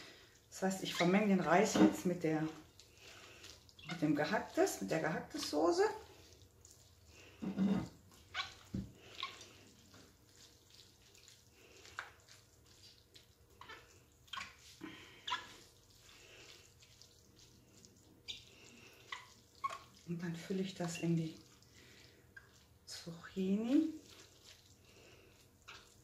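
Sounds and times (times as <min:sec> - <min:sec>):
spatula squelching and scraping: 0:00.0 - 0:26.0.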